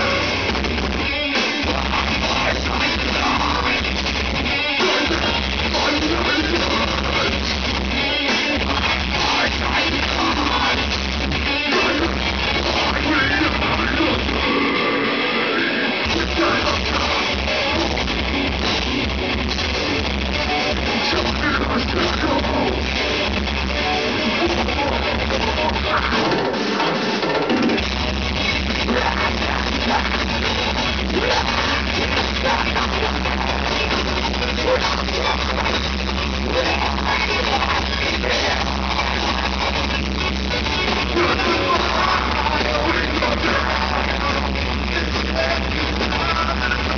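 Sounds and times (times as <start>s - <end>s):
bass guitar: 0.0s - 46.9s
distorted electric guitars: 0.0s - 46.9s
pounding drum kit: 0.0s - 46.9s.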